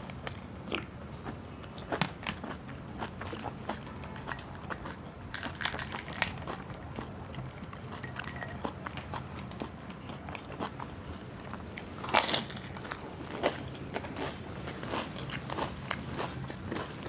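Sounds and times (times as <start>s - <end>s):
chewing crunchy fried food: 0.0s - 17.0s.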